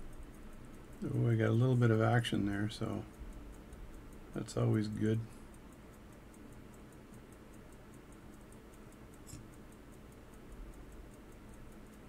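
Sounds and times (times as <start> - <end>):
pocket watch ticking faintly: 0.0 - 12.0.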